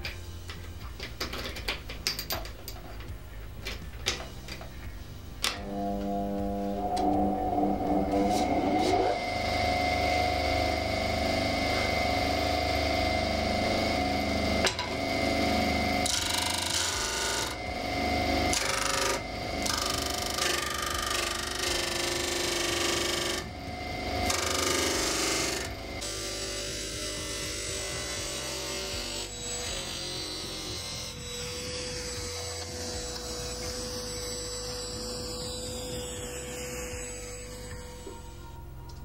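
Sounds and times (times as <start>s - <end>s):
sander disc whine: 2.7s - 39.0s.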